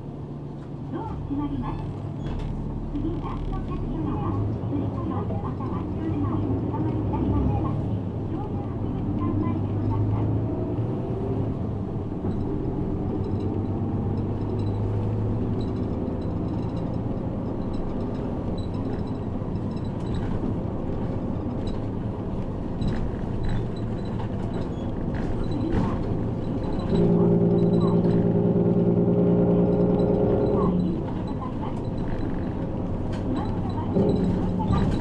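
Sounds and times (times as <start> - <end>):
bus engine and road noise: 0.0 - 35.0.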